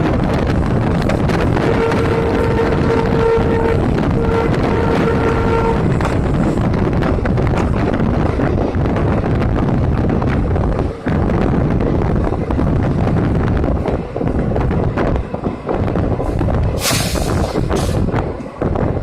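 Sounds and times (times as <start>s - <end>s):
diesel train rumbling: 0.0s - 19.0s
wind buffeting microphone: 0.0s - 19.0s.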